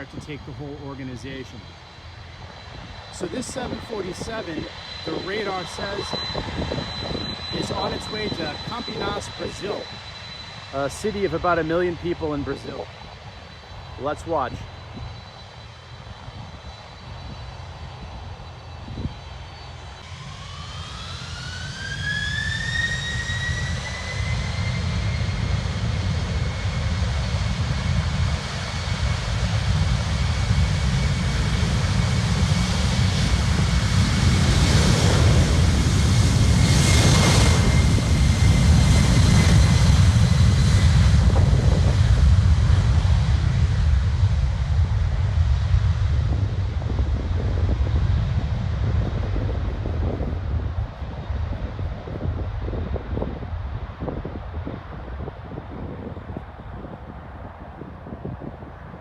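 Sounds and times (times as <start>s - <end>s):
deep jet roar: 0.0s - 59.0s
jet engine whine rising: 0.0s - 59.0s.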